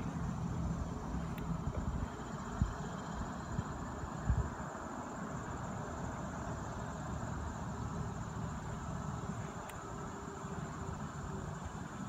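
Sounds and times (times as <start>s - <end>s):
insects trilling: 0.0s - 12.0s
low outdoor noise: 0.0s - 12.0s.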